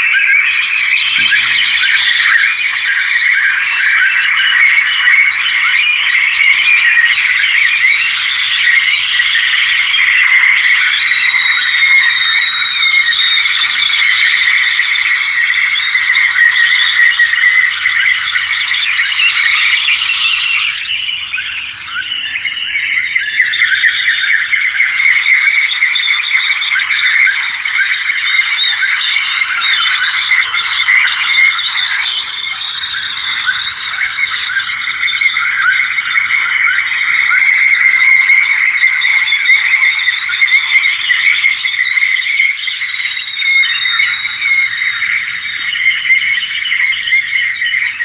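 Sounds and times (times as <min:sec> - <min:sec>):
small birds chattering and chirping: 0:00.1 - 0:48.0.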